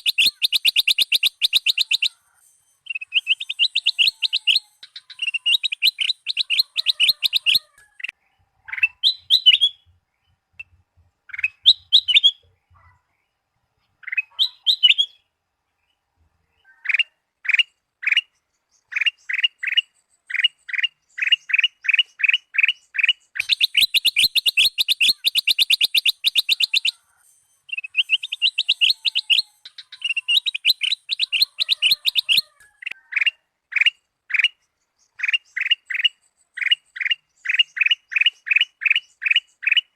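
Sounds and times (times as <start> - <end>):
bulbul chirping: 0.0 - 8.1, 8.7 - 9.8, 10.6 - 12.4, 14.0 - 15.2, 18.9 - 39.9.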